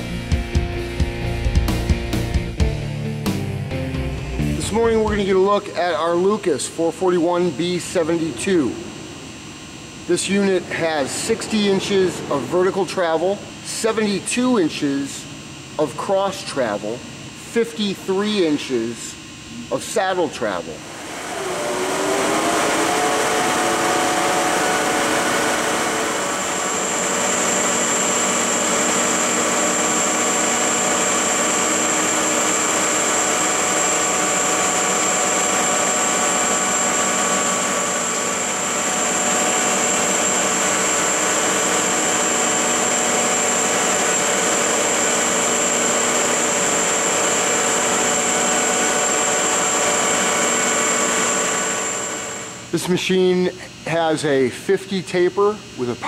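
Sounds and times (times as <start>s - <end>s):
thin high whine: 4.3s - 54.5s
machine whirring: 4.4s - 53.8s.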